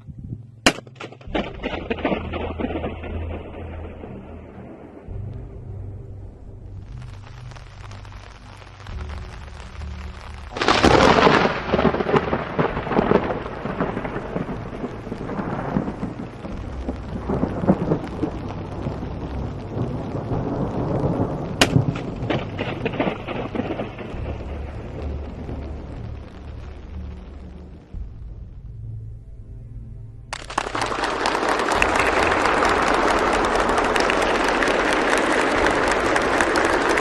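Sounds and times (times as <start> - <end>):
thunder crack and rumble: 0.2 - 29.1, 30.5 - 37.0.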